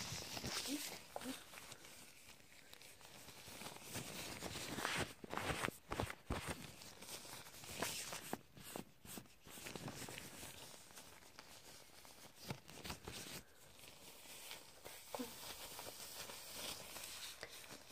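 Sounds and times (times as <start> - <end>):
gloved hands rubbing and tapping: 0.0 - 17.9.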